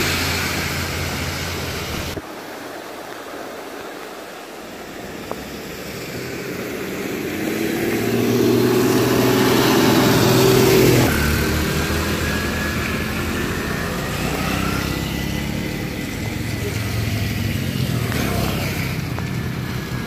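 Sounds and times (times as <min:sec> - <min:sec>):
vehicle engine passing by: 0:00.0 - 0:02.2, 0:05.8 - 0:20.0.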